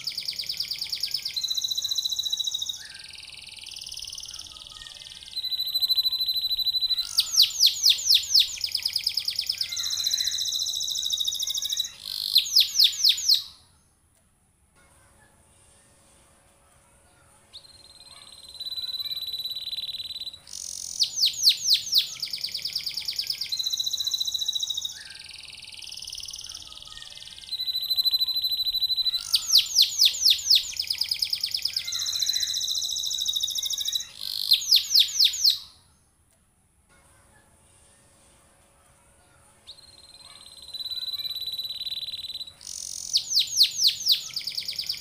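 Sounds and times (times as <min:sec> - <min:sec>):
canary singing: 0:00.0 - 0:13.9, 0:17.5 - 0:36.0, 0:39.7 - 0:45.0.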